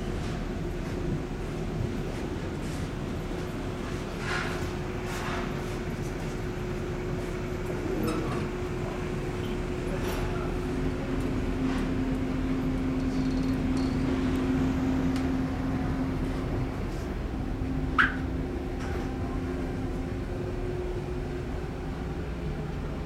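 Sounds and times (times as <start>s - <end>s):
ship engines droning: 0.0s - 23.0s.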